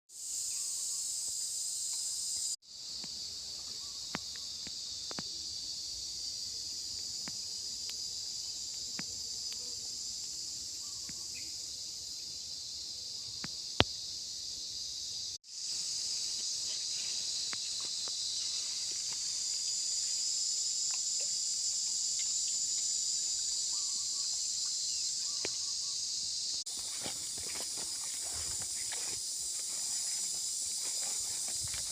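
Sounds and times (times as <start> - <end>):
insects chorus: 0.1 - 31.9.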